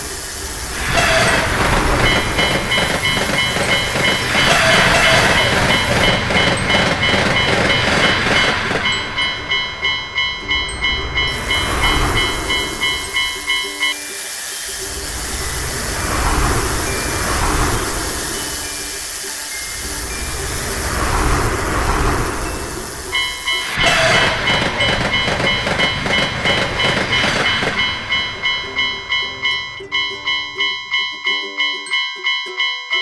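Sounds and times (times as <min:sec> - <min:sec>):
train rumbling and clattering: 0:00.0 - 0:31.1
level crossing bell dinging: 0:00.0 - 0:33.0.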